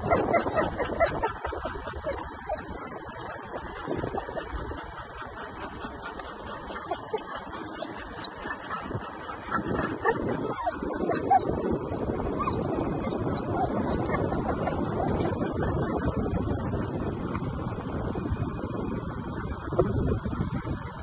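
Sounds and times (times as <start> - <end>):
dog panting: 0.0 - 17.2
trailer wheels rolling on pavement: 0.0 - 21.0
wind on microphone: 0.0 - 21.0.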